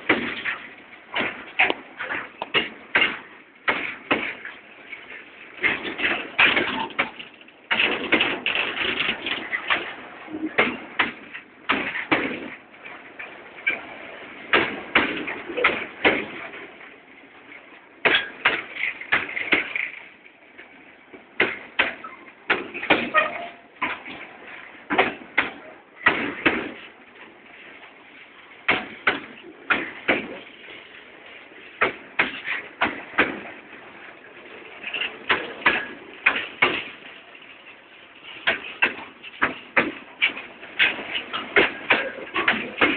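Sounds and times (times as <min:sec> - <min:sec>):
freight wagons clanking and rattling: 0:00.0 - 0:42.9.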